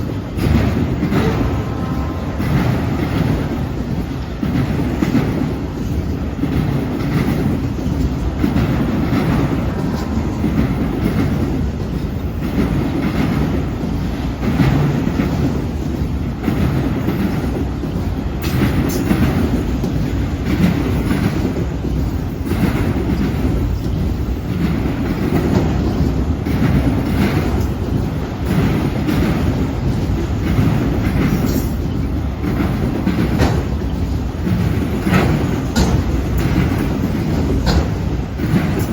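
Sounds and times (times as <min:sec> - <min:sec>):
freight train rumbling: 0:00.0 - 0:38.9
train wheels clacking on joints: 0:00.0 - 0:38.9.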